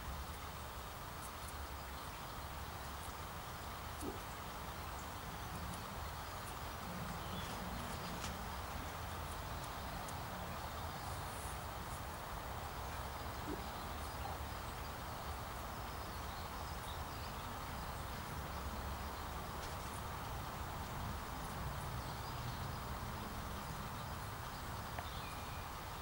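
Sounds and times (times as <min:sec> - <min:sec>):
faint high ticks and chirps: 0:00.0 - 0:26.0
outdoor ambient noise: 0:00.0 - 0:26.0.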